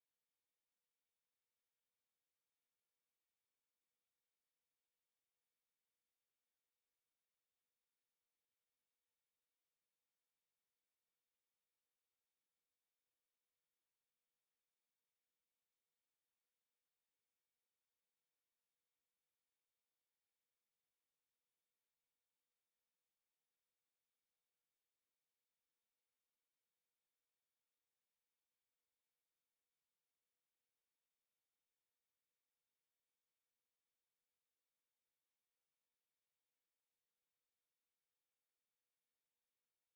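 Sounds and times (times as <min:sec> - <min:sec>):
high-pitched sine test tone: 0:00.0 - 0:39.9.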